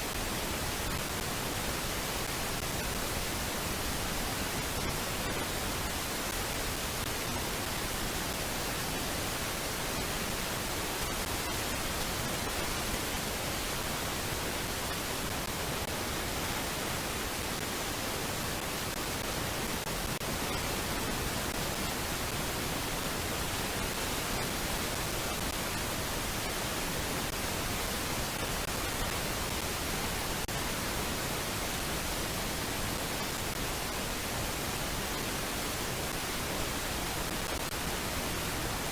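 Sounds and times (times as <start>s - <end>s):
static hiss: 0.0s - 38.9s.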